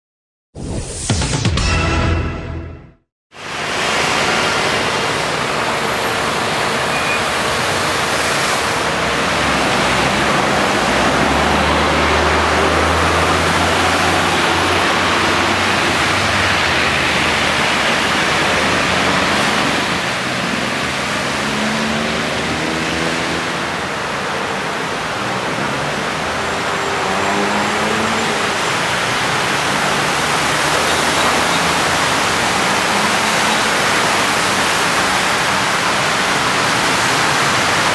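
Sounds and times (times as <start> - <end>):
car and truck engines: 3.3 - 37.9
heavier engine hum: 3.4 - 37.9
tyres swishing through water: 3.4 - 37.9.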